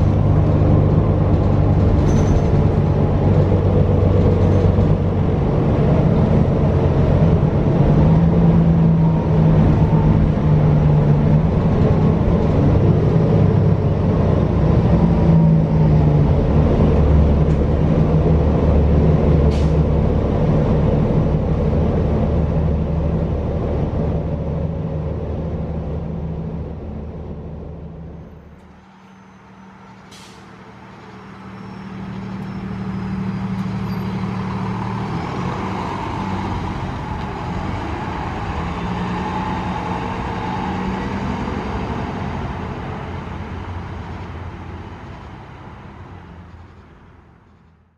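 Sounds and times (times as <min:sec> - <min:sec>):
bus engine from outside: 0:00.0 - 0:47.9
bus engine hum from inside: 0:00.0 - 0:47.9.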